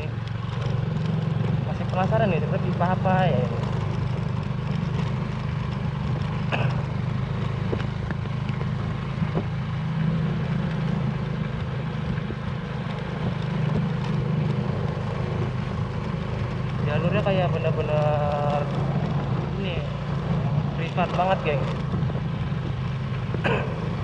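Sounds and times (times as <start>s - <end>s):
motor scooter engine running: 0.0s - 24.0s
road and wind noise: 0.0s - 24.0s.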